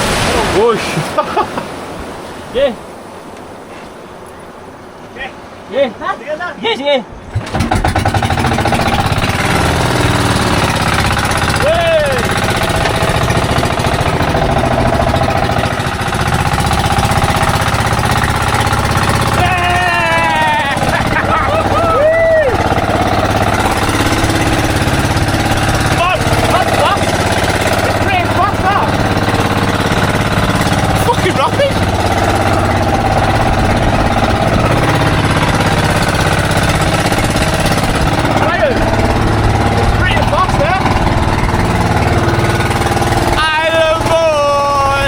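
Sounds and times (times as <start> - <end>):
wind and water hiss: 0.0 - 45.0
boat engine chugging: 4.5 - 45.0.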